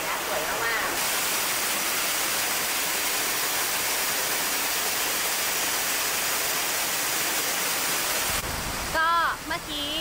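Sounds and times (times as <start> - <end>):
waterfall pouring into pool: 0.0 - 9.0.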